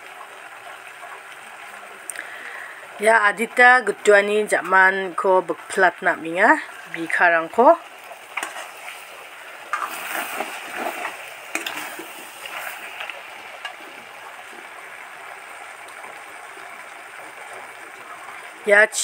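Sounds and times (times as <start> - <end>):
water boiling in a pot: 0.0 - 19.0.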